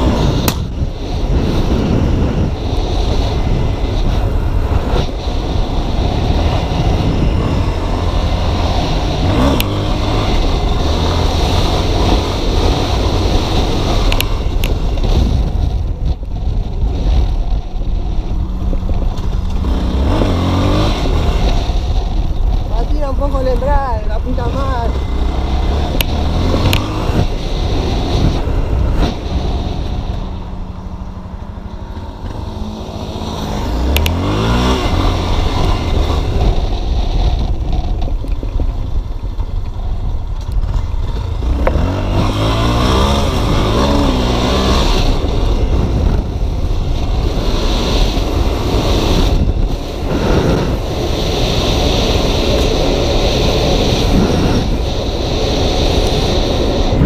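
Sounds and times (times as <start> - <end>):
motorcycle engine revving: 0.0 - 57.0
wind buffeting microphone: 0.0 - 57.0.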